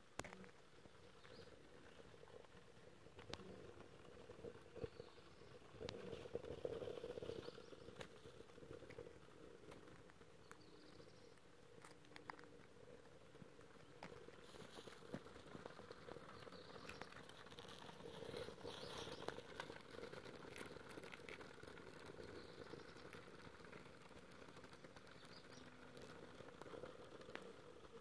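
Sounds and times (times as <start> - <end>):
twigs crackling in fire: 0.1 - 28.0.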